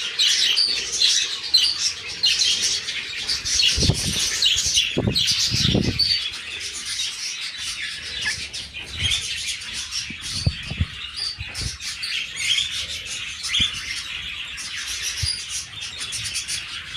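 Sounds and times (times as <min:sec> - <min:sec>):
cockatiels chirping: 0:00.1 - 0:16.9.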